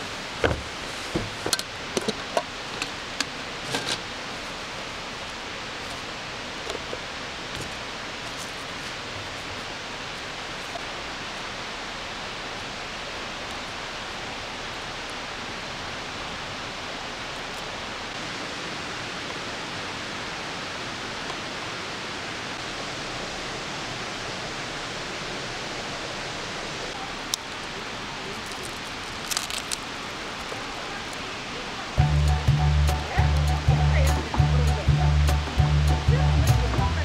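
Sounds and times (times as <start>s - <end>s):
rushing background noise: 0.0s - 37.0s.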